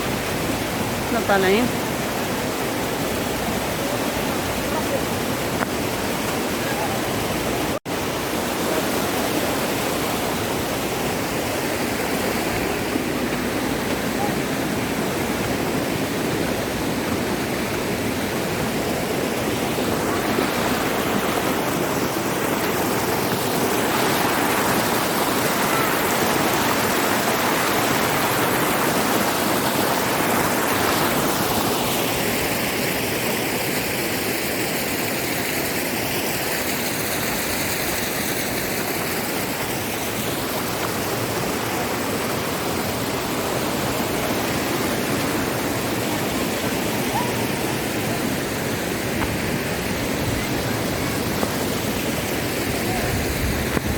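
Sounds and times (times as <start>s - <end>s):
rush of fast-flowing water: 0.0s - 53.9s.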